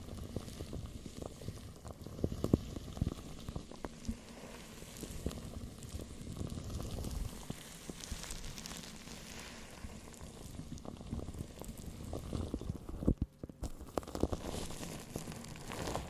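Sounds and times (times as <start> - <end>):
soft crackling and popping: 0.0 - 16.0.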